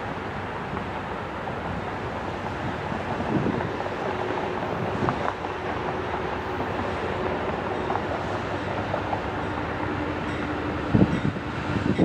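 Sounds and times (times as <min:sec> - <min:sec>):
locomotive rumble: 0:00.0 - 0:12.0
low engine drone: 0:00.0 - 0:12.0.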